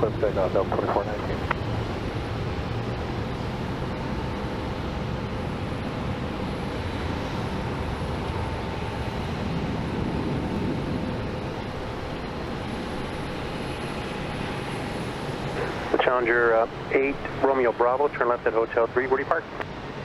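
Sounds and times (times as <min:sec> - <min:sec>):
jet engines roaring with whine: 0:00.0 - 0:20.0.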